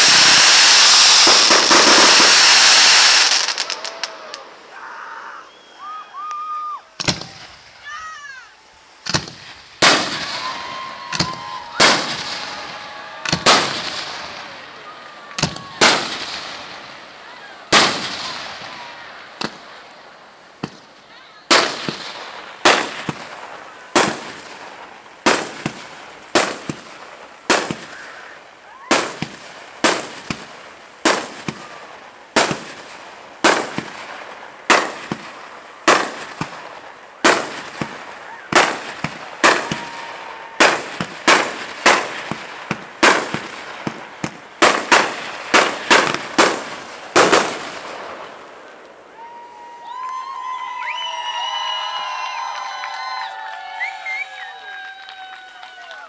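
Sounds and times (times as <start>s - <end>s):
fireworks bursting with bangs: 0.0s - 4.6s, 7.0s - 7.9s, 8.9s - 49.1s.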